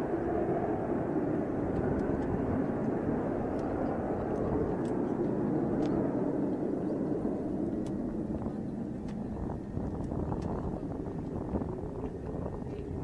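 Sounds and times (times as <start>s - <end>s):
distant jet engine roar: 0.0s - 13.0s.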